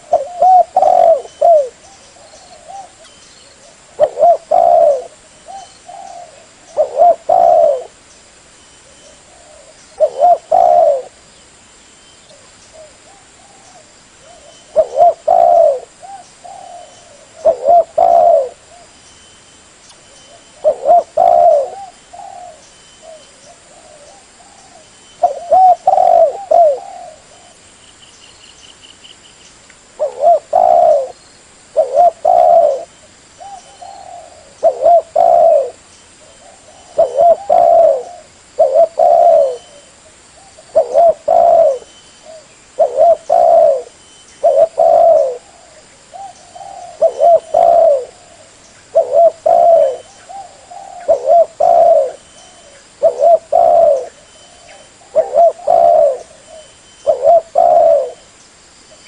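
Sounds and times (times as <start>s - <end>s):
dove cooing: 0.0s - 8.0s, 8.8s - 11.2s, 12.3s - 19.0s, 20.3s - 27.7s, 30.0s - 58.3s.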